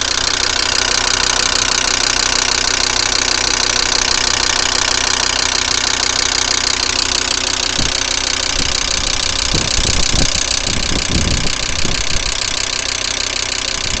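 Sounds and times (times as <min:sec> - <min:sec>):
diesel engine idling with knock: 0:00.0 - 0:14.0
low rumbling thumps: 0:00.0 - 0:14.0.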